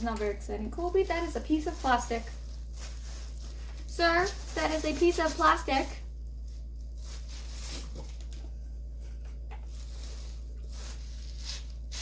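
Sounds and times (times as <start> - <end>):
plastic packaging rustling: 0.0 - 12.0
steady low hum: 0.0 - 12.0.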